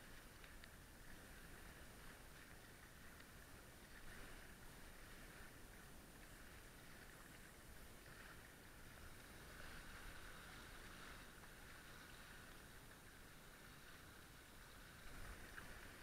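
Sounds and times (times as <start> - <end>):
water rushing: 0.0 - 16.0
wind: 0.0 - 16.0.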